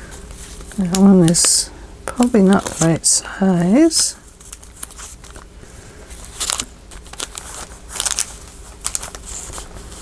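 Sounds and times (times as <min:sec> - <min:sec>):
paper crinkling and rustling: 0:00.1 - 0:01.6, 0:02.2 - 0:10.0.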